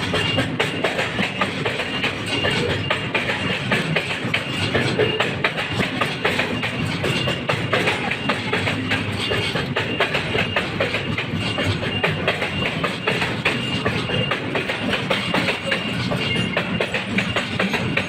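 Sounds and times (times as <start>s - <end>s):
freight train rumbling and clattering: 0.0s - 18.0s.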